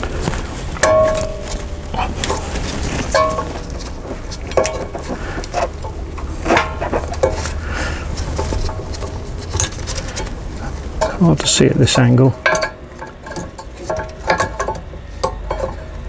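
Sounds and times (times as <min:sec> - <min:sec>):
brake pad clinking and scraping: 0:00.0 - 0:16.0
low steady rumble: 0:00.0 - 0:16.0.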